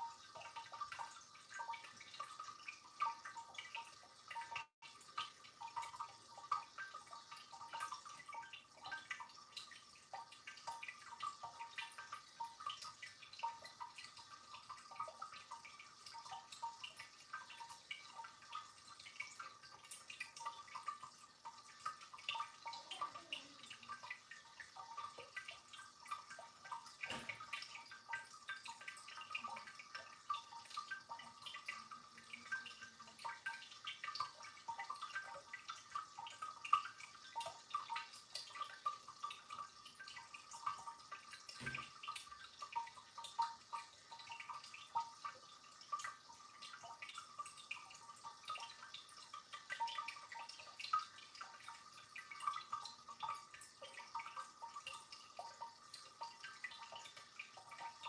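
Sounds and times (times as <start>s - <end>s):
fountain water trickling: 0.0s - 58.0s
small drips and plinks: 0.0s - 58.0s.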